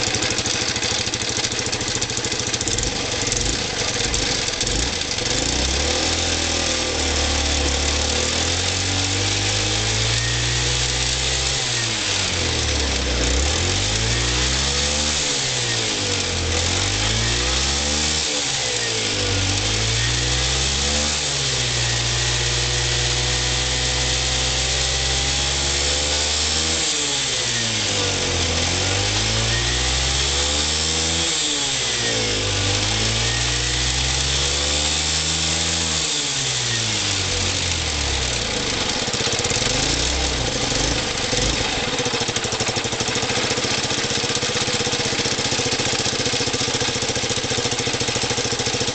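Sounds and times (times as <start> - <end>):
scooter engine starting and revving: 0.0 - 48.9.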